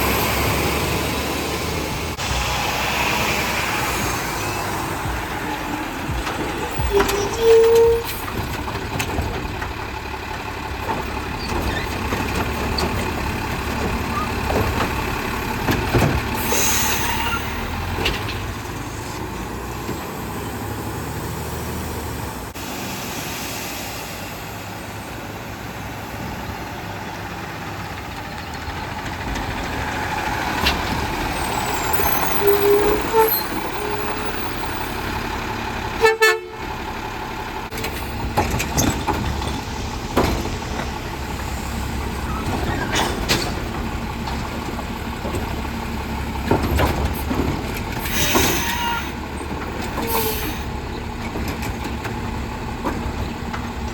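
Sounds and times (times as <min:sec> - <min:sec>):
garbage truck engine running: 0:00.0 - 0:23.2, 0:23.8 - 0:53.9.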